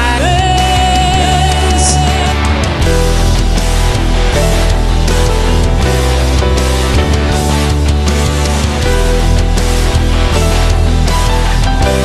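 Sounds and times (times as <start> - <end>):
distorted electric guitar: 0.0 - 12.0
drums: 0.0 - 12.0.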